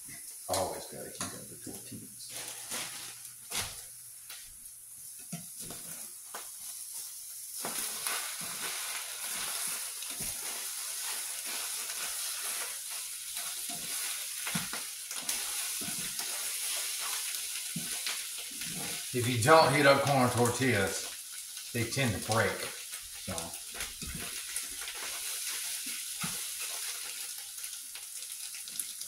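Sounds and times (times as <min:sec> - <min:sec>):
eggs sizzling in frying pan: 0:00.0 - 0:29.0.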